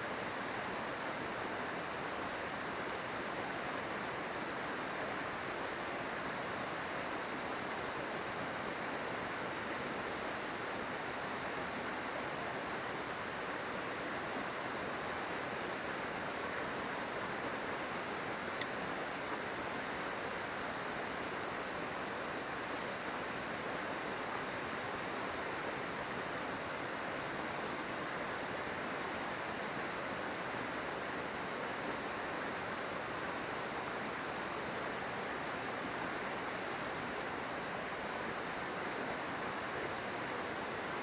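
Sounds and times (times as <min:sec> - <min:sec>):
river rushing: 0:00.0 - 0:41.0.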